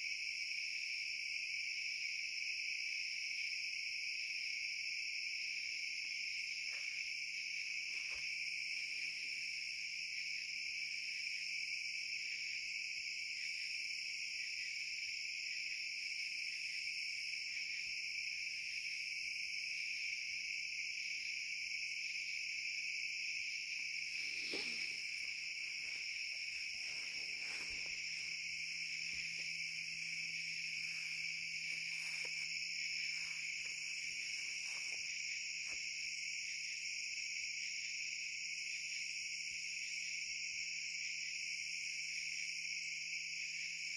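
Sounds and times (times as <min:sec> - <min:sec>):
crickets and night insects trilling: 0:00.0 - 0:43.9.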